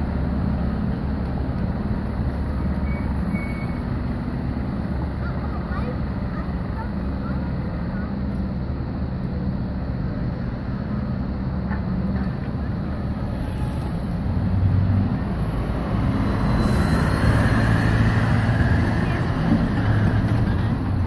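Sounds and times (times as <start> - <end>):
city traffic: 0.0 - 21.0
diesel engine running low: 0.0 - 21.0.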